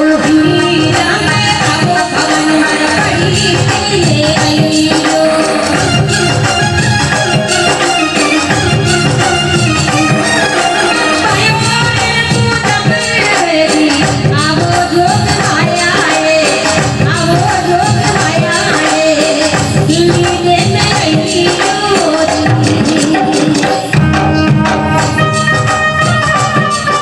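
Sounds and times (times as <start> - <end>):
instrumental accompaniment: 0.0 - 27.0
steady percussion: 0.0 - 27.0
woman singing: 0.0 - 27.0.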